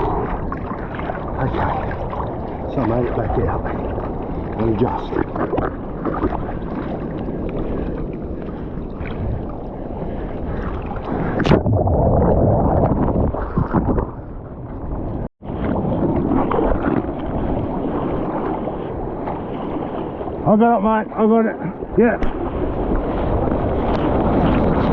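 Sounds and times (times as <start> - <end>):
seawater splashing and rushing: 0.0 - 24.9
wind buffeting microphone: 0.0 - 24.9.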